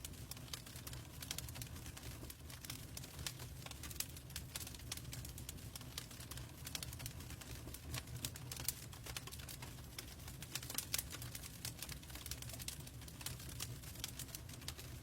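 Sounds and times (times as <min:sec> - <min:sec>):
log fire crackling: 0:00.0 - 0:15.0
low rumble of burning logs: 0:00.0 - 0:15.0.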